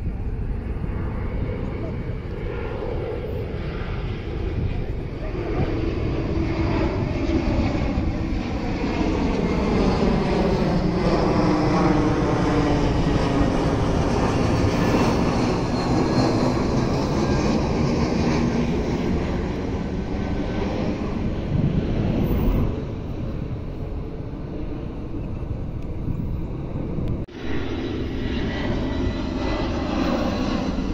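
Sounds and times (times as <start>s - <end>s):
jet airliner engine roar: 0.0s - 30.9s.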